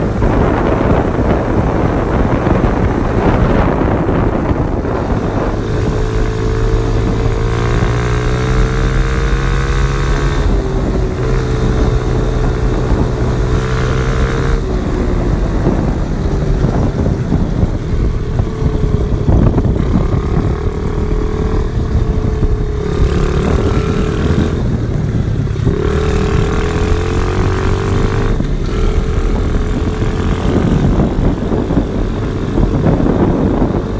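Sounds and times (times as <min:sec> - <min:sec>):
small motorcycle engine revving: 0:00.0 - 0:33.9.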